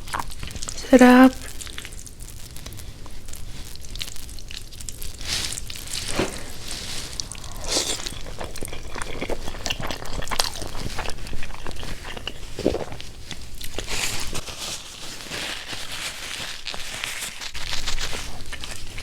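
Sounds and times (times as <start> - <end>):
crunching fried chicken: 1.4 - 19.0.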